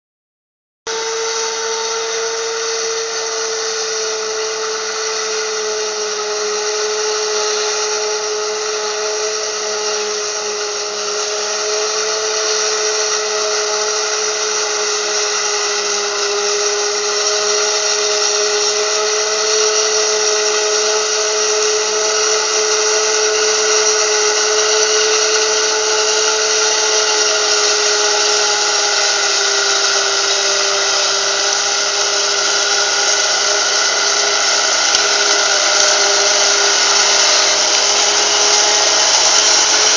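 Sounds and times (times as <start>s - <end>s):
forage harvester whine: 0.9s - 39.9s.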